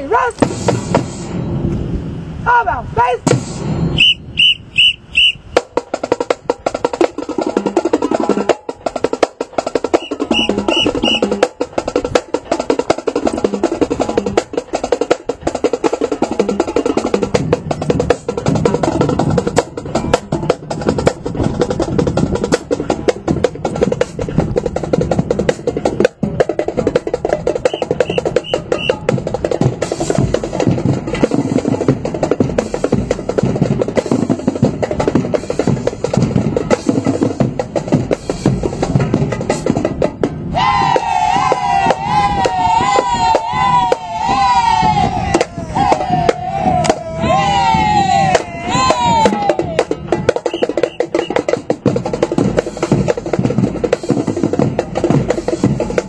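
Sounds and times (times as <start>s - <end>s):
marching snare drums: 0.2s - 1.6s, 3.2s - 56.0s.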